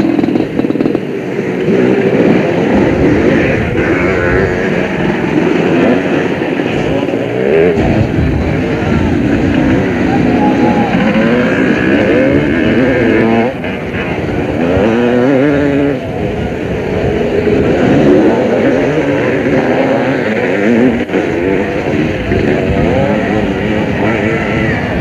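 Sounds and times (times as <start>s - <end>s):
motocross bikes revving: 0.0s - 25.0s.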